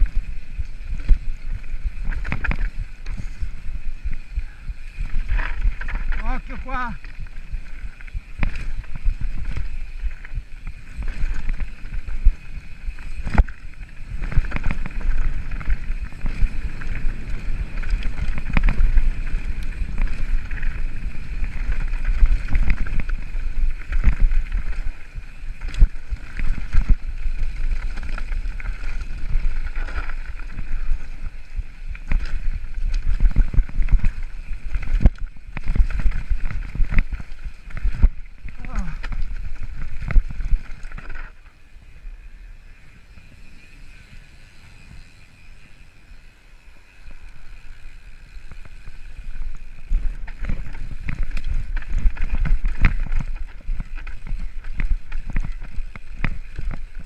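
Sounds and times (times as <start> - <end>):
bike clattering: 0.0 - 41.6, 46.6 - 57.0
wind rumble on microphone: 0.0 - 45.8, 47.0 - 57.0
tyres crunching over stones: 4.9 - 41.5, 47.6 - 57.0.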